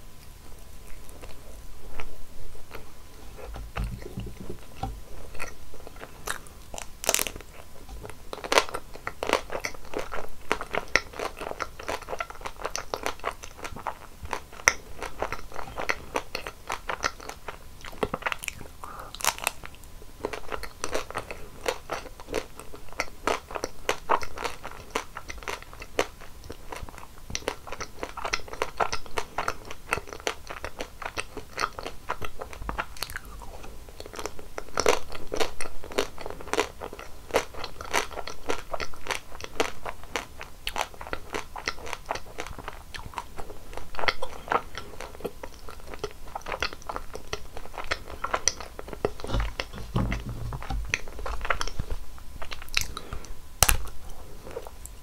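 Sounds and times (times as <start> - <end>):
chewing crunchy chocolate shell: 0.2 - 54.8.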